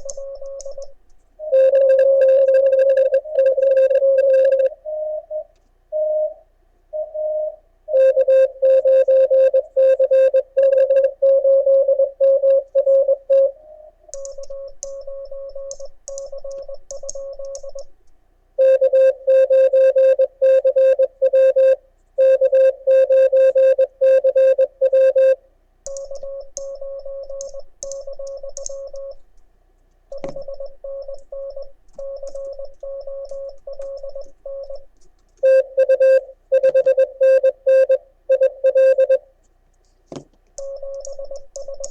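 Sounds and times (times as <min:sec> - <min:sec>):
morse code beeps: 0:00.0 - 0:06.4, 0:07.0 - 0:13.6, 0:14.2 - 0:17.9, 0:18.6 - 0:29.2, 0:30.1 - 0:39.3, 0:40.6 - 0:41.9.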